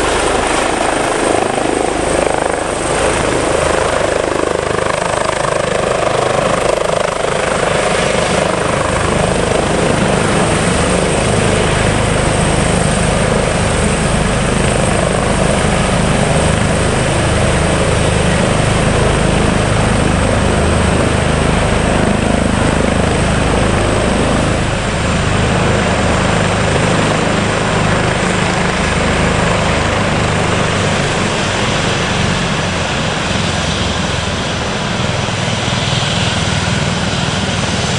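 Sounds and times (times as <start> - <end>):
helicopter rotor beat: 0.0 - 37.9
helicopter turbine whine: 0.0 - 37.9.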